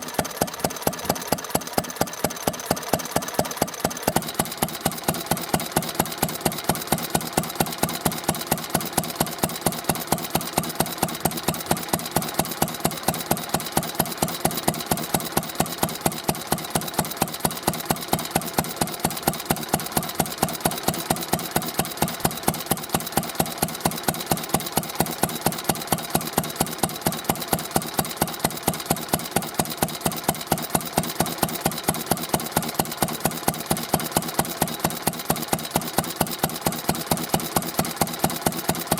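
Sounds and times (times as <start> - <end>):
stationary engine idling: 0.0 - 38.9.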